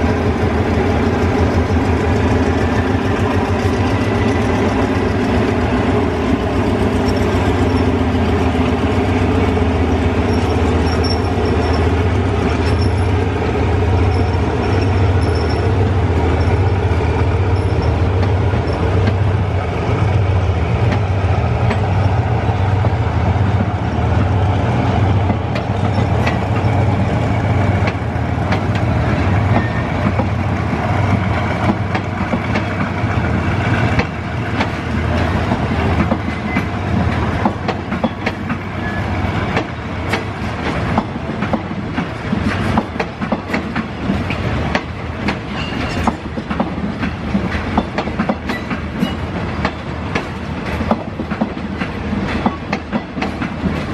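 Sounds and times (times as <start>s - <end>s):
train wheels clicking over rail joints: 0.0s - 53.9s.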